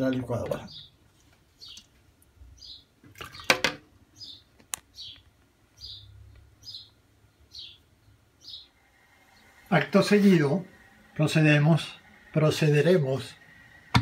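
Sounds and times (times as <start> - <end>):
bird chirping: 0.3 - 14.0.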